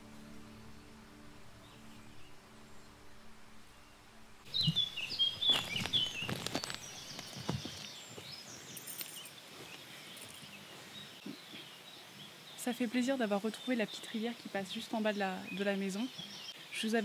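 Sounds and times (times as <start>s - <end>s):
birds chirping: 0.0s - 17.0s
faint steady hiss: 0.0s - 17.0s.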